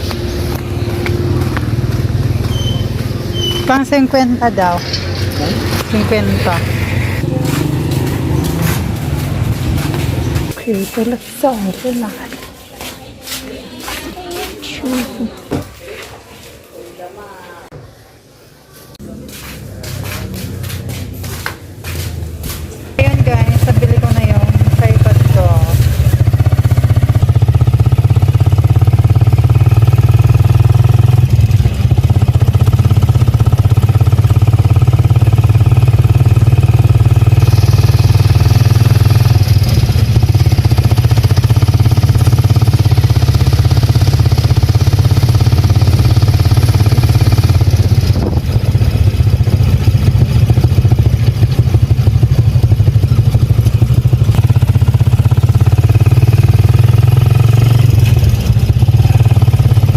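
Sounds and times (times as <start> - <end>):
motorcycle engine running: 0.0 - 11.2, 19.2 - 59.9.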